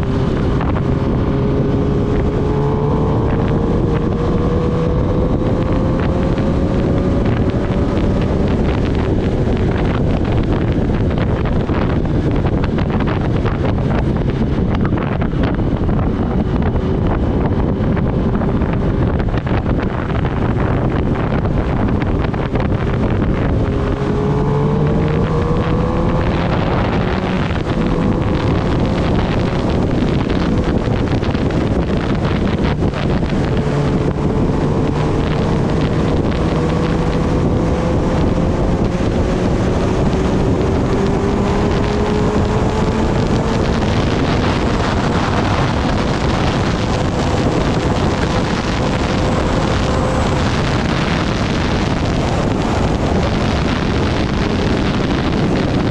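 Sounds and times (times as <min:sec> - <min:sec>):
motorcycle engine accelerating: 0:00.0 - 0:55.9
wind noise on microphone: 0:00.0 - 0:55.9.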